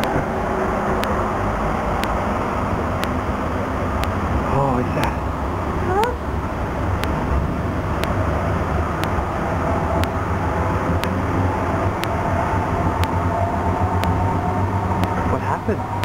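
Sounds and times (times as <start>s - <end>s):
faint steady whine: 0.0s - 16.0s
train rumbling on track: 0.0s - 16.0s.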